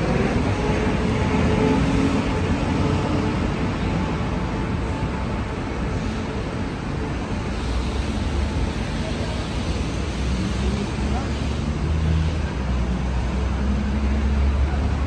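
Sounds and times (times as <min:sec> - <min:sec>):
traffic noise with low rumble: 0:00.0 - 0:15.0.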